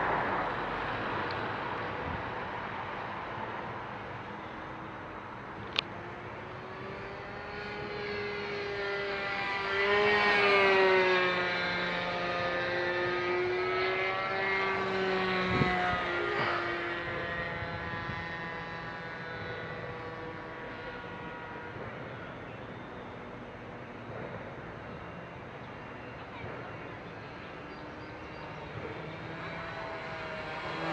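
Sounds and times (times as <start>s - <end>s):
model airplane engine buzzing: 0.0s - 30.9s.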